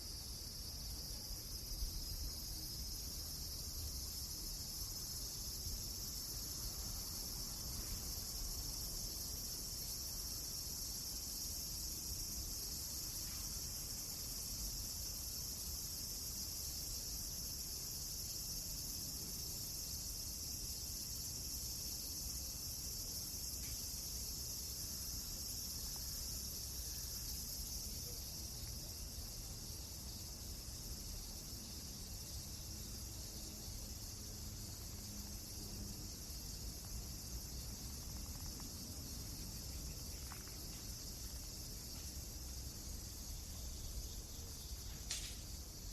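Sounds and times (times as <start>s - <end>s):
crickets chirring: 0.0s - 45.9s.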